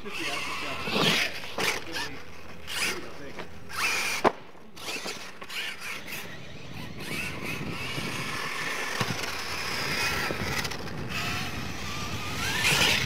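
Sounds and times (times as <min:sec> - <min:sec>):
toy truck motor whining: 0:00.0 - 0:13.0.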